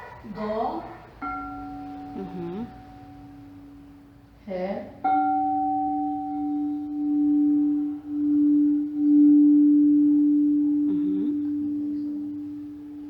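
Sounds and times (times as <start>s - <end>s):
crystal singing bowl ringing: 1.2s - 4.1s, 5.0s - 13.0s.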